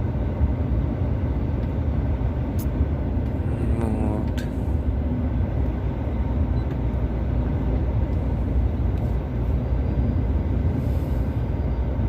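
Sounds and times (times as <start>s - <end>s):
heavy truck engine rumble: 0.0s - 12.0s
road noise: 0.0s - 12.0s.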